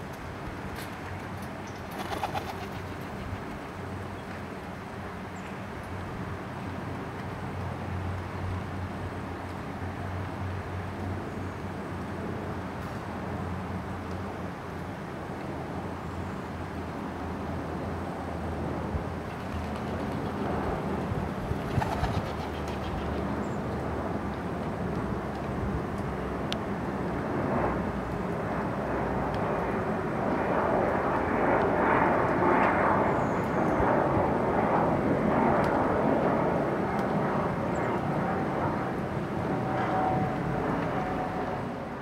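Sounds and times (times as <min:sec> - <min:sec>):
distant engine hum: 0:00.0 - 0:42.0.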